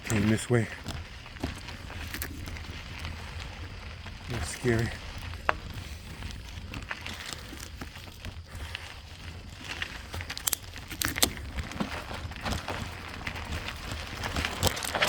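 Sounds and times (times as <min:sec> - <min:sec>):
bicycle rattling: 0:00.0 - 0:15.0
bicycle tyres crunching on dirt: 0:00.0 - 0:15.0.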